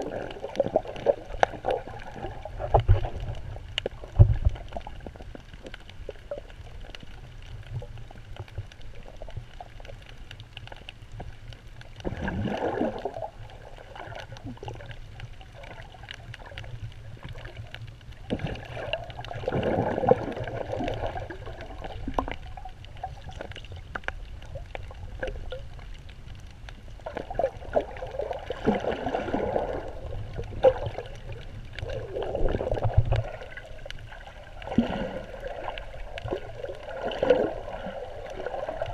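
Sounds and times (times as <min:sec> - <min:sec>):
muffled underwater rumble: 0:00.0 - 0:38.9
underwater gurgling swells: 0:00.0 - 0:38.9.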